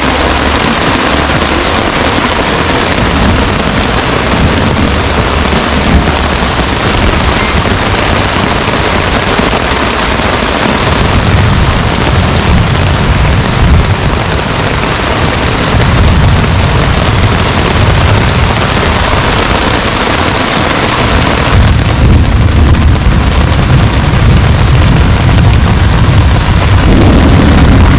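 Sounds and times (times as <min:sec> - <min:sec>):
heavy rain pouring: 0:00.0 - 0:27.9
thunder rumbling: 0:00.0 - 0:27.9.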